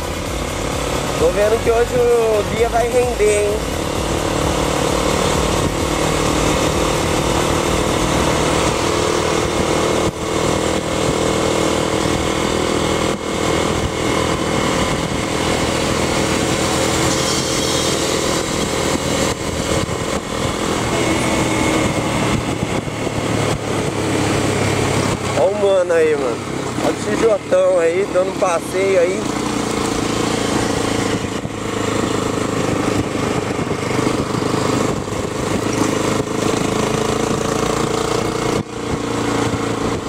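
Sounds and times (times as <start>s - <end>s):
motorcycle engine running: 0.0s - 40.0s
wind noise on microphone: 0.0s - 40.0s.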